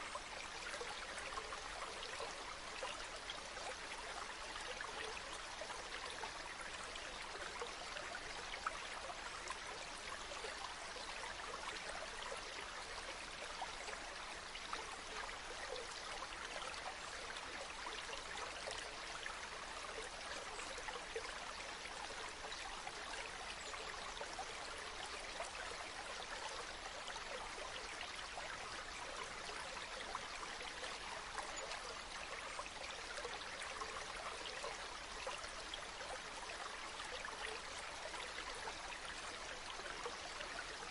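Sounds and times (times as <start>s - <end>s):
spring water trickling and splashing: 0.0s - 40.9s.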